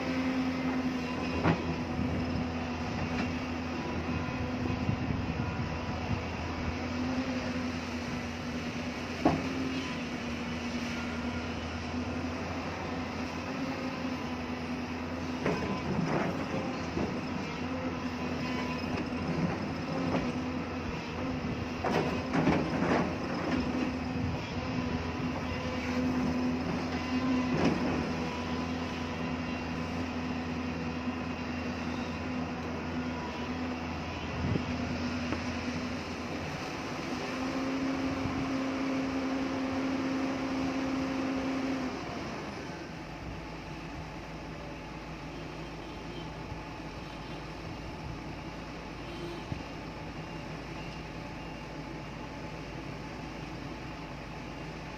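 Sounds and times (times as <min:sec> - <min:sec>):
diesel engine running under load: 0:00.0 - 0:54.9.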